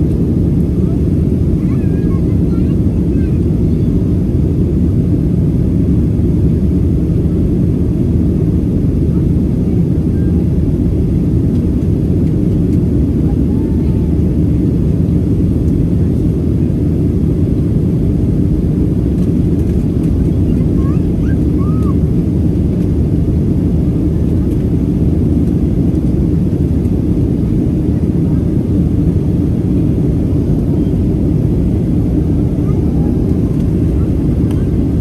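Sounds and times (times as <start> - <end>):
airliner cabin engine rush: 0.0 - 35.0.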